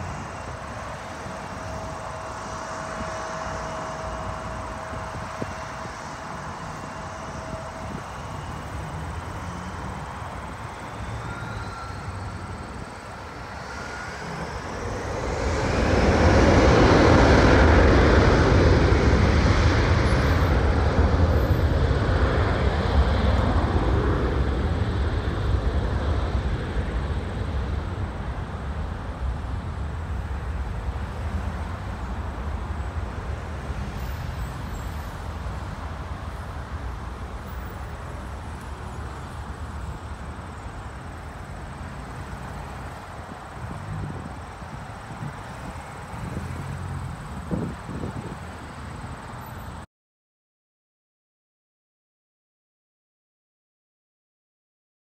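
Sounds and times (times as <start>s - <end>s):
jet airliner taking off: 0.0s - 49.5s
highway traffic rumble: 0.0s - 49.9s.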